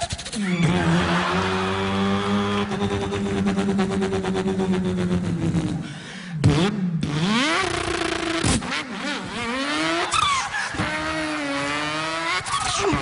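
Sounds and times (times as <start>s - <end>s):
man imitating car engine: 0.2s - 13.0s.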